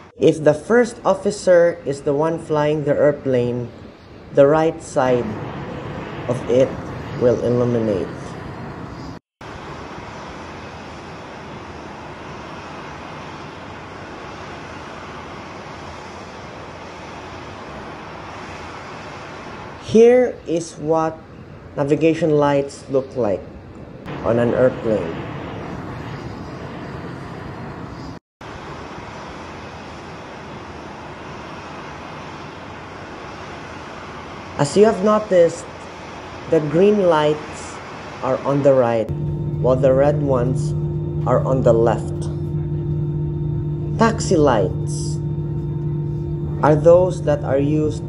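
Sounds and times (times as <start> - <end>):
jet aircraft rushing noise: 4.2 - 20.1, 23.9 - 48.0.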